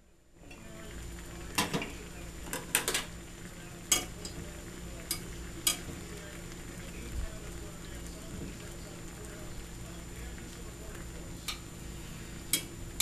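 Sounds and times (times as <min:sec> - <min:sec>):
meat sizzling in a pan: 0:00.5 - 0:13.0.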